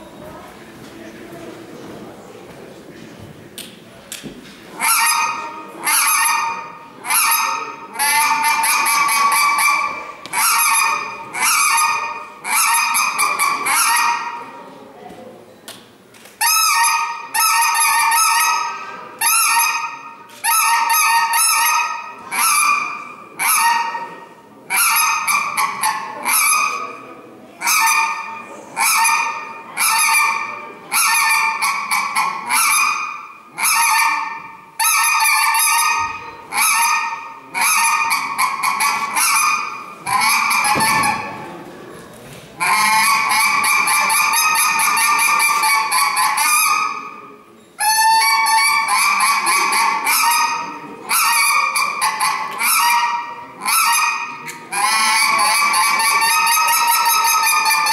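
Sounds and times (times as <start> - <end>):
goose call honks: 4.8 - 14.4, 16.4 - 24.0, 24.7 - 26.8, 27.6 - 41.4, 42.6 - 47.1, 47.8 - 57.9.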